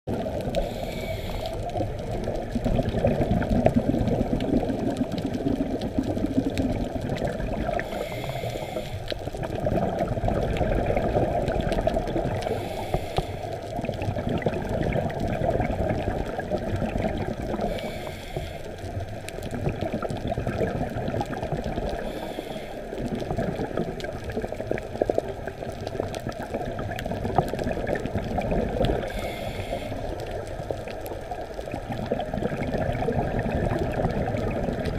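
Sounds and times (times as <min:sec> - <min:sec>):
scuba exhaust bubbles hissing: 0:00.1 - 0:34.9
underwater rush of water: 0:00.1 - 0:34.9.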